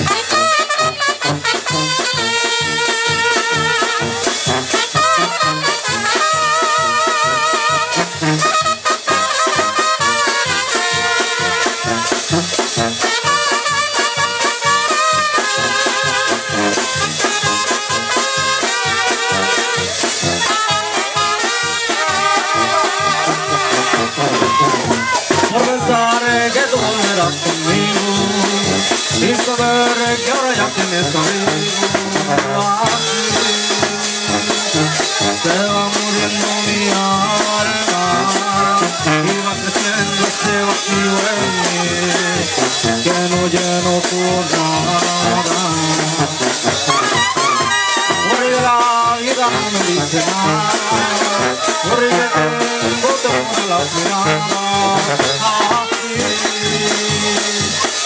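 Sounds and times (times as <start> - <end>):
bass drum and cymbal beat: 0.0 - 58.0
brass band playing: 0.0 - 58.0
sousaphone bass line: 0.0 - 58.0.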